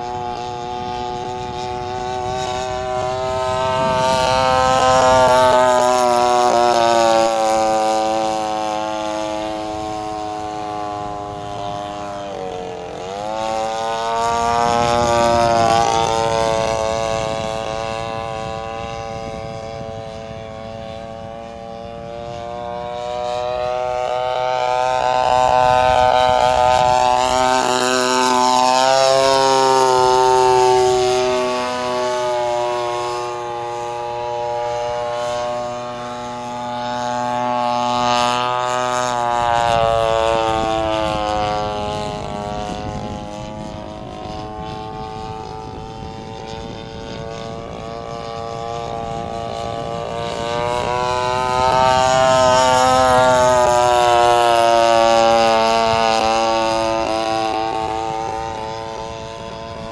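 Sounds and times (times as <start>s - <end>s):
model plane engine and propeller: 0.0s - 59.9s.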